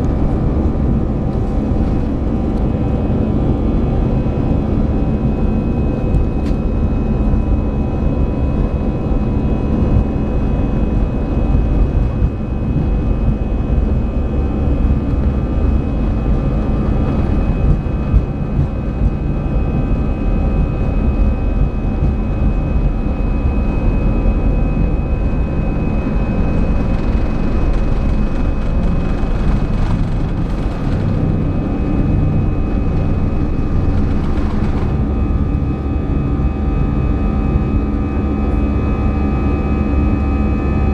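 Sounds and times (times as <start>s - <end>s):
jet engines and airflow rumble: 0.0s - 40.9s
steady whining tones: 0.0s - 40.9s.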